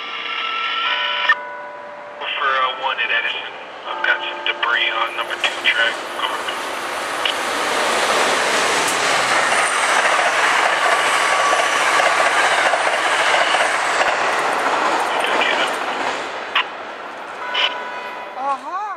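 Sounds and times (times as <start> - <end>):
train rushing past: 0.0 - 18.5.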